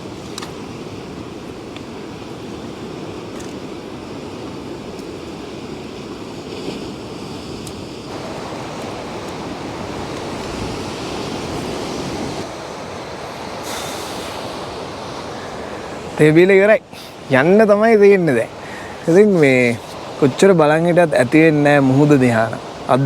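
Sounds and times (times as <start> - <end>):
sea surf on shore: 0.0 - 23.0
wind: 0.0 - 23.0.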